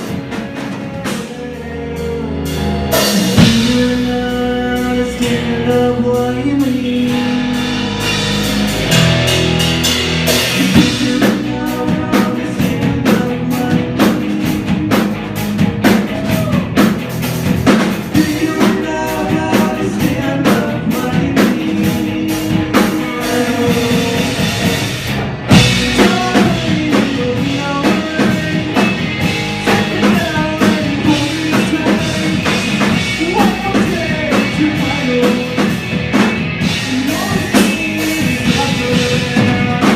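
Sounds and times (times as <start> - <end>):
person singing: 0.0 - 8.0, 10.5 - 16.9, 18.1 - 35.9, 36.6 - 39.9
bass guitar: 0.0 - 39.9
drum kit: 0.0 - 39.9
electric guitar: 0.0 - 39.9.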